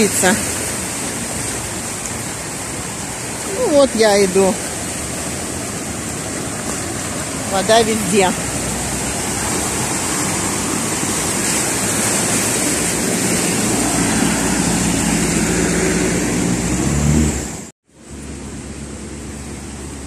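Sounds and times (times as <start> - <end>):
steady rush of noise: 0.0 - 20.0
truck engine hum: 0.0 - 20.0
vehicles splashing through water: 0.0 - 20.0.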